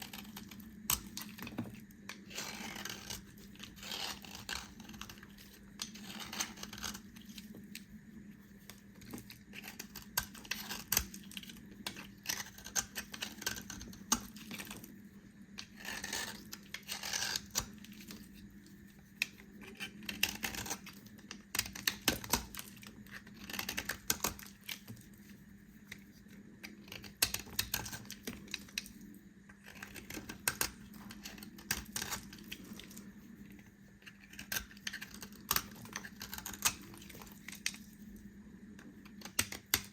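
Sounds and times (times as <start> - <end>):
knife cutting bar soap: 0.0 - 8.0, 8.6 - 39.9.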